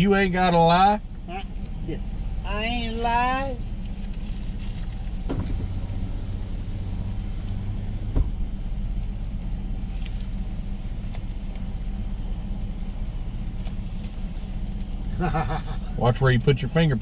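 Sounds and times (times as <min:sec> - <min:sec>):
car engine hum from cabin: 0:00.0 - 0:17.0.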